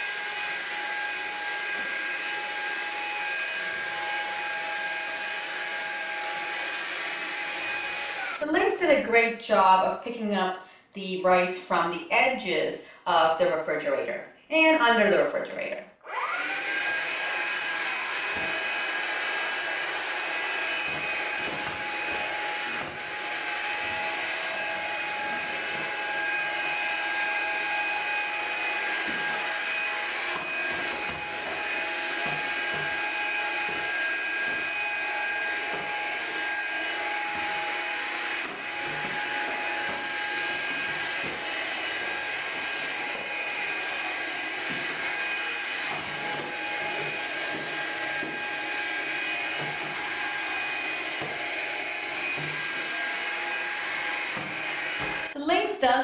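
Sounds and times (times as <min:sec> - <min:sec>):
stick vacuum motor whine: 0:00.0 - 0:08.4, 0:16.0 - 0:55.4.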